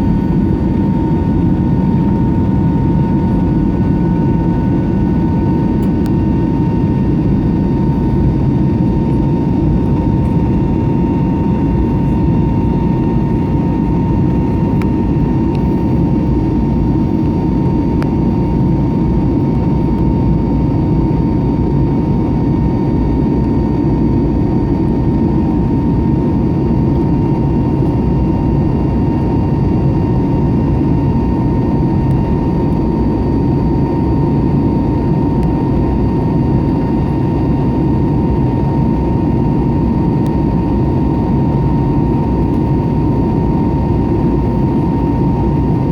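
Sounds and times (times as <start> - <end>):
jet engine cabin rumble: 0.0 - 45.9
thin steady whine: 0.0 - 45.9.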